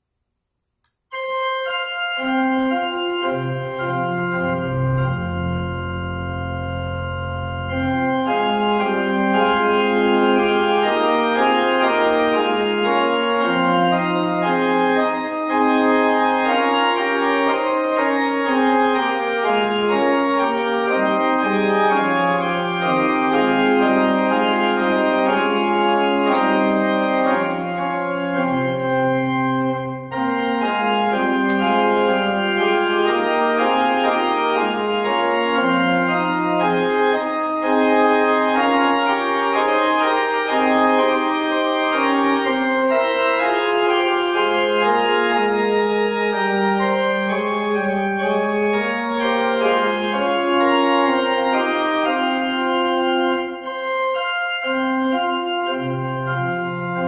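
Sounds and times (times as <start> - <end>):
low organ pedal notes: 1.1 - 57.0
organ sustained chords: 1.1 - 57.0.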